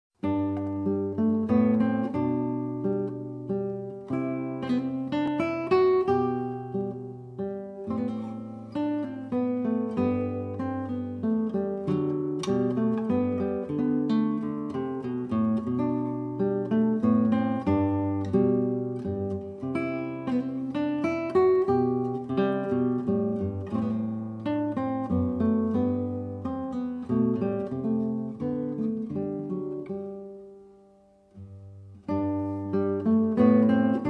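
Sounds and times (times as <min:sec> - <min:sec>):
plucked acoustic guitar: 0:00.2 - 0:34.0.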